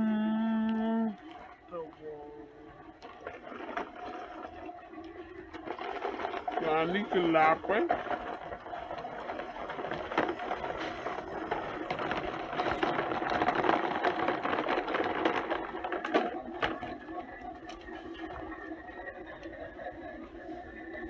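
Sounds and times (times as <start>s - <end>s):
toy motor and gears whirring: 0.0s - 21.0s.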